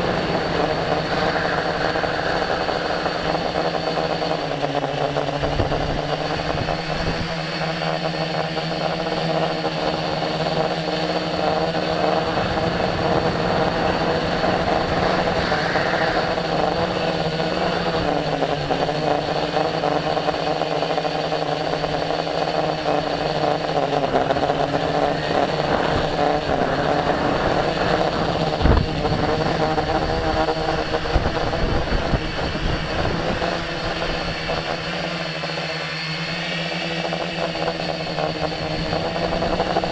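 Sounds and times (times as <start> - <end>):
wind rumble on microphone: 0.0 - 35.4
drone motors buzzing: 0.0 - 39.9.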